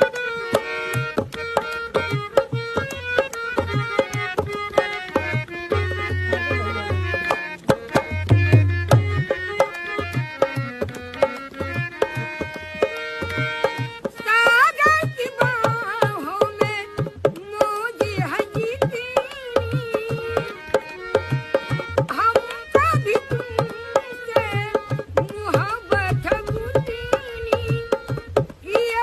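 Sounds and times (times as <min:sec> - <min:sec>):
tabla beat: 0:00.0 - 0:29.0.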